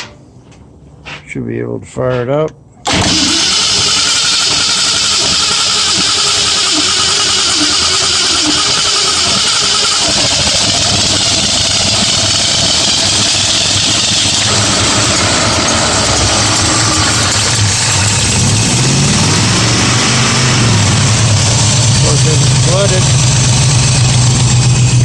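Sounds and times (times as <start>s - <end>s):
car engine running: 2.8s - 25.0s.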